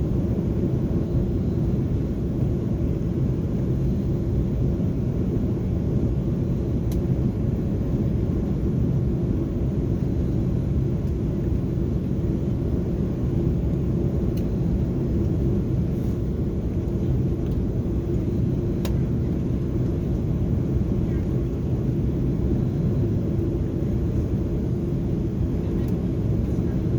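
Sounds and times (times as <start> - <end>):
airliner cabin rumble: 0.0 - 26.9.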